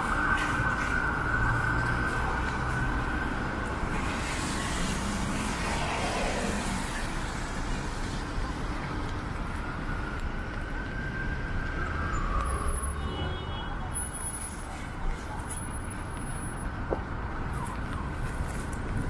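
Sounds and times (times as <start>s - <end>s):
cars passing on wet road: 0.0s - 19.0s.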